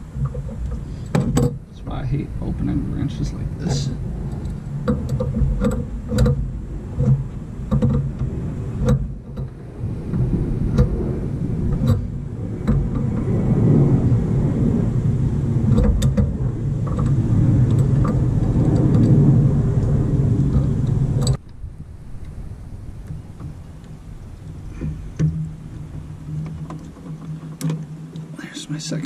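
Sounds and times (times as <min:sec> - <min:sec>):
low rumble with hum: 0:00.0 - 0:29.0.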